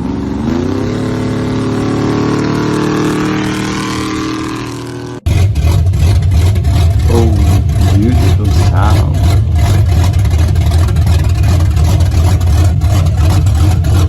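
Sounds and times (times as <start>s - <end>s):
deep engine with crackling exhaust: 0.0s - 14.0s
truck engine revving: 0.0s - 14.0s.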